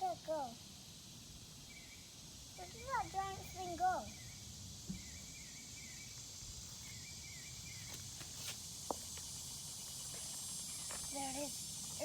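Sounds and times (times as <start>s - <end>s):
insects hissing: 0.0s - 12.0s.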